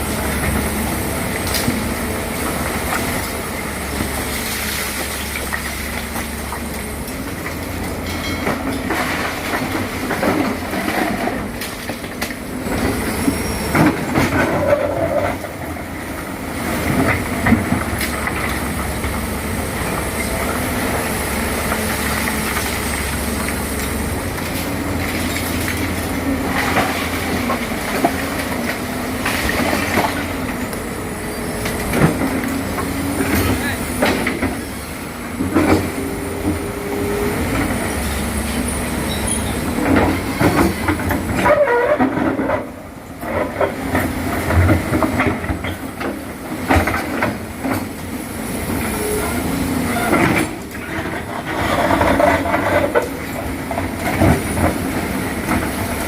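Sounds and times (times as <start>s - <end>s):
diesel engine running: 0.0s - 56.0s
metallic clanking and squealing tracks: 7.8s - 15.8s, 16.8s - 48.0s, 48.8s - 55.8s.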